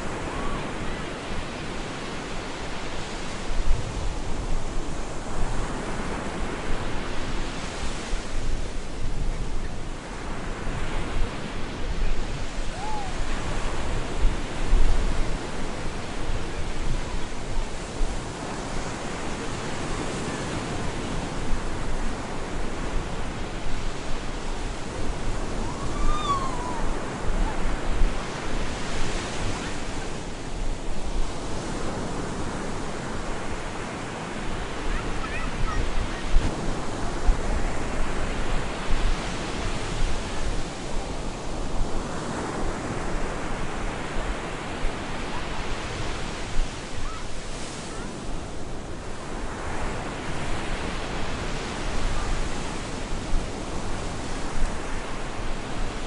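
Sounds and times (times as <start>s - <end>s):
waves breaking on a beach: 0.0s - 56.0s
wind: 0.0s - 56.0s.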